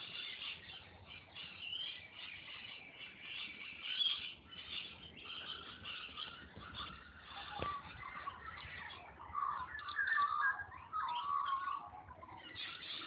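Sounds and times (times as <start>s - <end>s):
chorus of high chirping calls: 0.0s - 13.0s.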